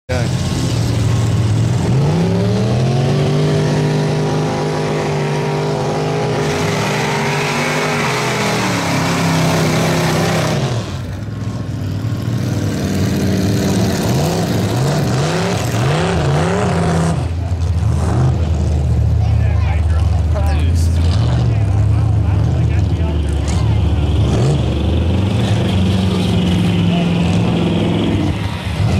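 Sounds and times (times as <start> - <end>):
truck engine revving: 0.1 - 28.9.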